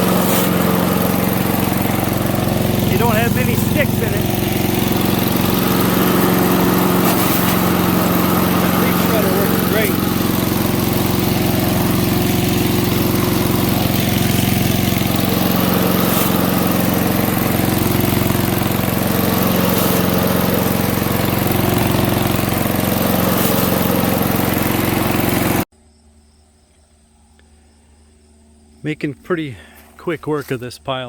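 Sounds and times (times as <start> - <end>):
small engine running: 0.0 - 25.7.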